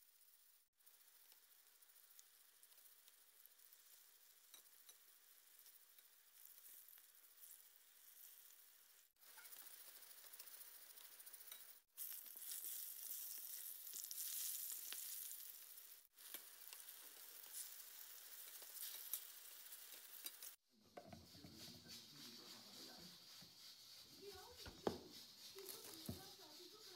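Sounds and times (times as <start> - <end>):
eggplant sizzling in hot oil: 0.0 - 26.9.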